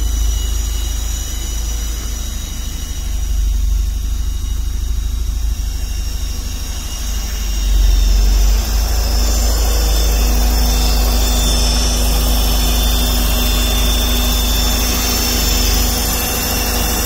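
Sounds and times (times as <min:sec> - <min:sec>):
car engine idling: 0:00.0 - 0:17.0
thin high whine: 0:00.0 - 0:17.0.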